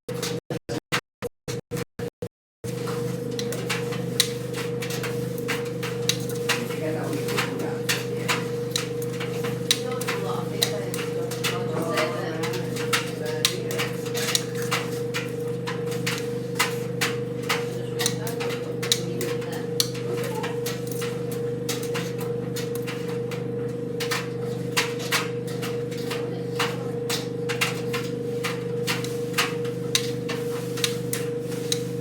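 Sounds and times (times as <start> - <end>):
tumble dryer motor hum: 2.6 - 32.0.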